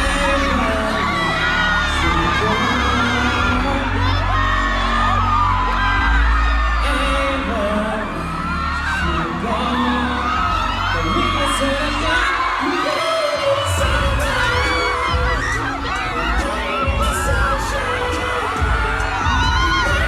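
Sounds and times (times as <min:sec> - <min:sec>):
person singing: 0:00.0 - 0:20.0
pop music with heavy bass: 0:00.0 - 0:20.0.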